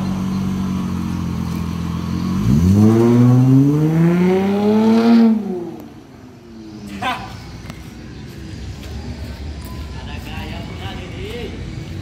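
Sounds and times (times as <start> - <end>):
car engine idling and accelerating: 0.0 - 12.0.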